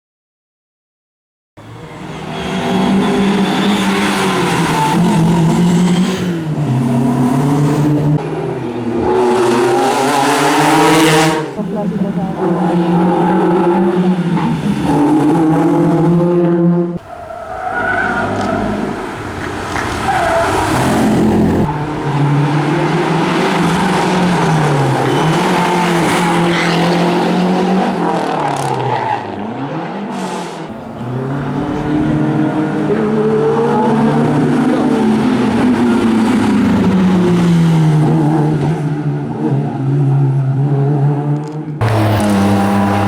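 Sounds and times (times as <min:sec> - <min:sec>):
rally car engines revving: 0:01.6 - 0:43.0.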